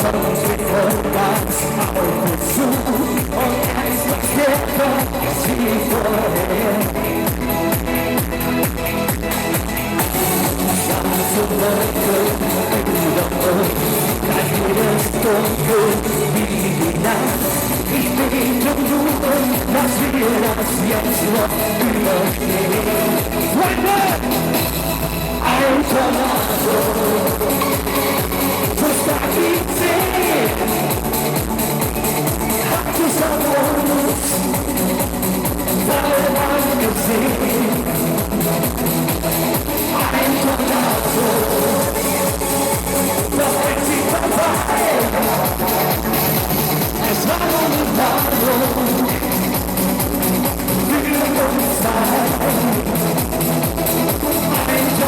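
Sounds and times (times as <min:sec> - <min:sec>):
man singing: 0:00.0 - 0:08.0, 0:10.0 - 0:55.0
pop song with dance beat: 0:00.0 - 0:55.0.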